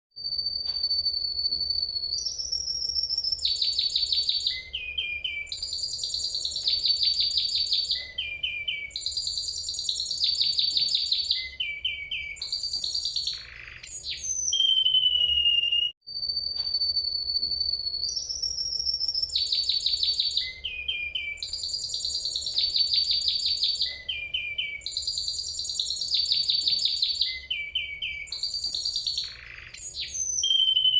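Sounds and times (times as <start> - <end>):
canary singing trills: 0.2 - 30.9.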